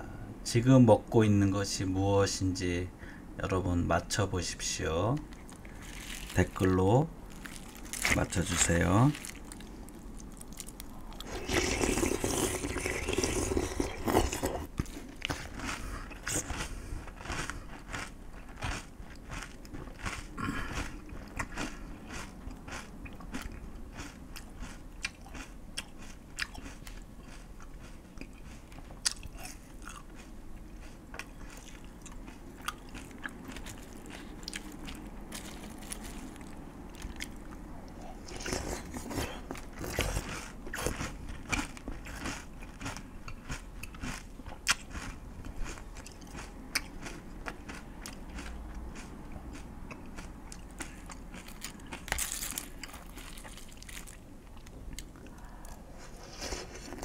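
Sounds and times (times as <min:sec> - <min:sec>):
person chewing crunchy food: 0:05.1 - 0:57.0.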